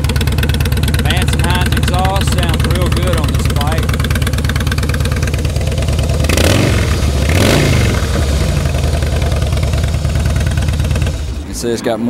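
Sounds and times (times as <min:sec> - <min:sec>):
motorcycle engine idling and revving: 0:00.0 - 0:11.5.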